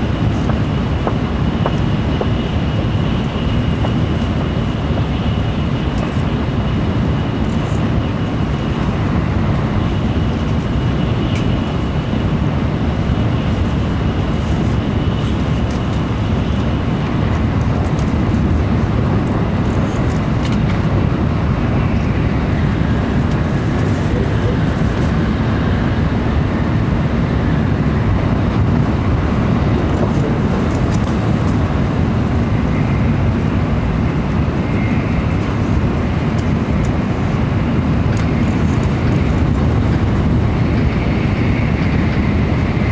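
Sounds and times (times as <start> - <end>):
wheels rumbling on rail: 0.0 - 42.9.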